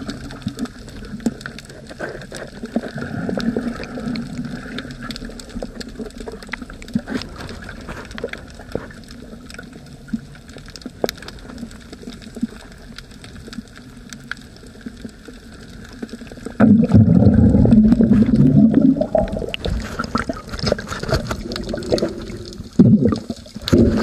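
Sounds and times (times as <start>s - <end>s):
muffled underwater wash: 0.0s - 24.0s
underwater clicks and crackles: 0.0s - 24.0s.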